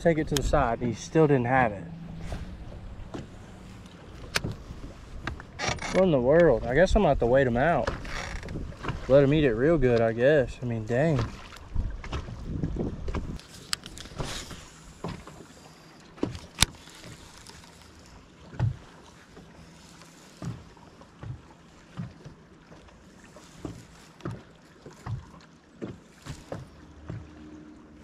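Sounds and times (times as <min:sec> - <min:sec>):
small waves slapping boat hull: 0:00.0 - 0:28.0.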